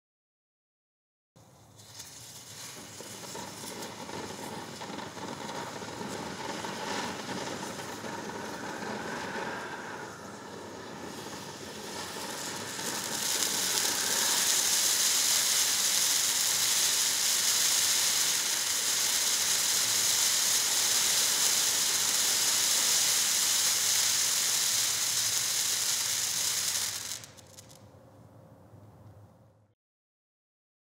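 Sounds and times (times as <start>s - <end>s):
firework fountain hissing: 1.4s - 27.9s.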